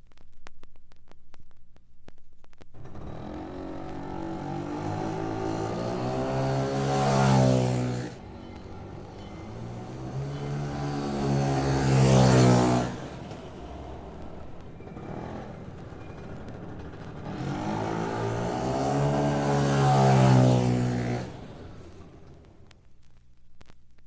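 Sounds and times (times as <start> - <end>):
car passing by: 2.9 - 22.6.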